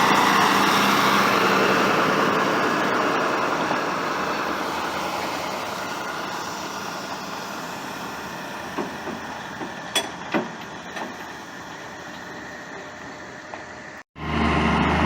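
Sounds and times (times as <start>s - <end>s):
heavy truck engine rumble: 0.0s - 15.0s.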